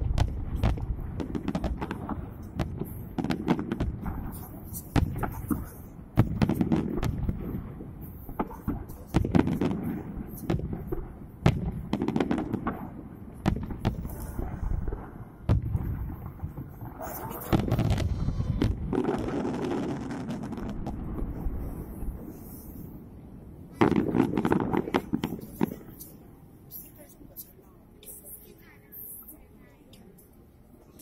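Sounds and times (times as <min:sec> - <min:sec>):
fireworks bursting: 0:00.0 - 0:27.1.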